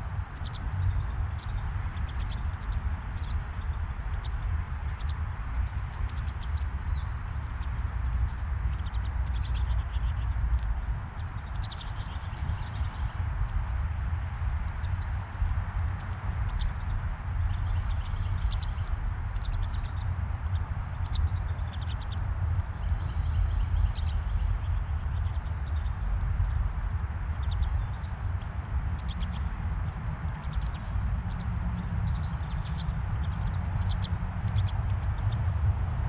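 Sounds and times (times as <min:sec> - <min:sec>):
birds chirping and twittering: 0:00.0 - 0:36.0.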